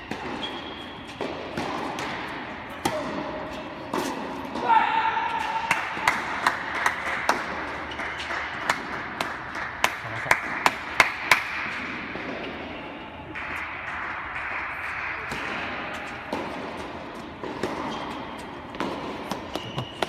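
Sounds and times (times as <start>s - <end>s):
tennis balls bouncing: 0.0s - 4.7s, 5.3s - 20.0s.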